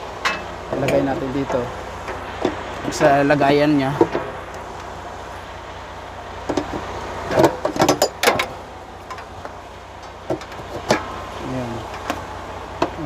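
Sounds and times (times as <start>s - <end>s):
truck engine hum: 0.0s - 13.0s.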